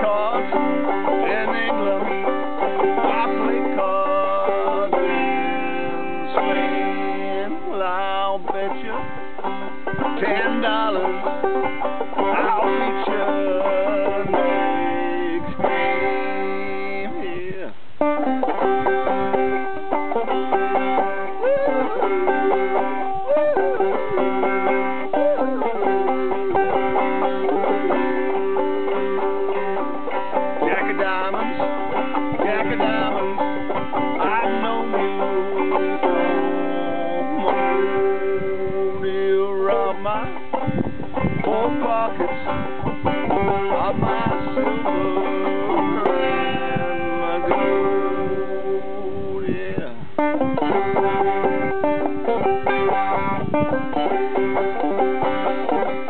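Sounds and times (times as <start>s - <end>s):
banjo picking a tune: 0.0s - 56.0s.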